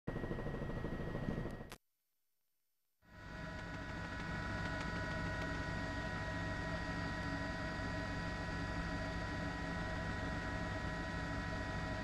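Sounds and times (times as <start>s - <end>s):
helicopter engine and rotor: 0.1s - 1.7s, 3.1s - 12.0s.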